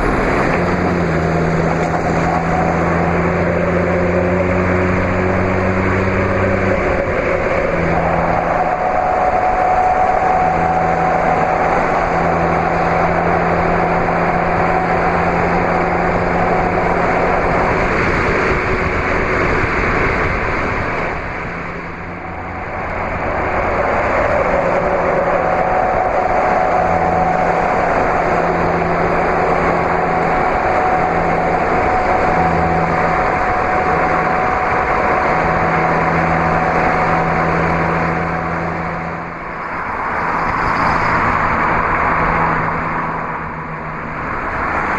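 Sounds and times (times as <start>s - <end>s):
road and wind noise: 0.0s - 44.9s
vehicle engine drone: 0.0s - 44.9s.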